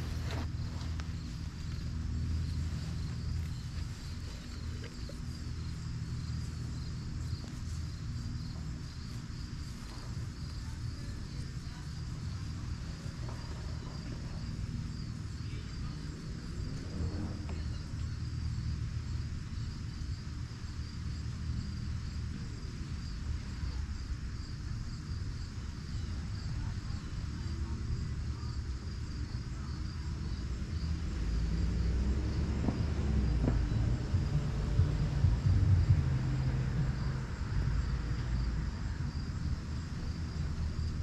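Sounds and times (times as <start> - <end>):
crickets chirping: 0.0 - 41.0
low outdoor rumble: 0.0 - 41.0.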